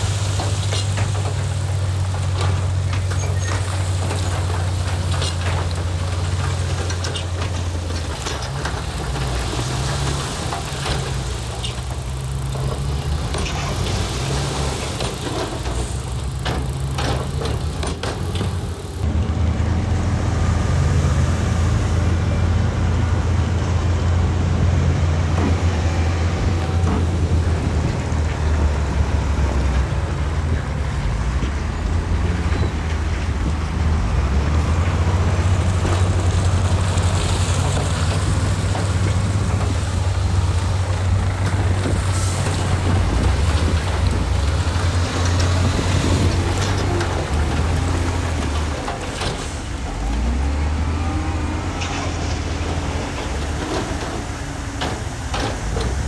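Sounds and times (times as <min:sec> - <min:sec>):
metal clanks and knocks: 0:00.0 - 0:19.2, 0:23.0 - 0:56.0
diesel engine running: 0:00.0 - 0:56.0.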